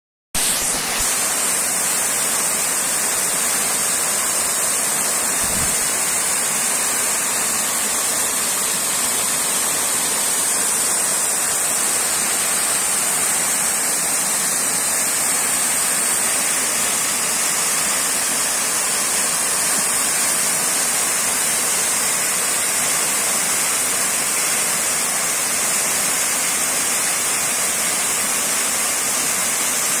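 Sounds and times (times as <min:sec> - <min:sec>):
small waterfall splashing into pool: 0:00.4 - 0:30.0.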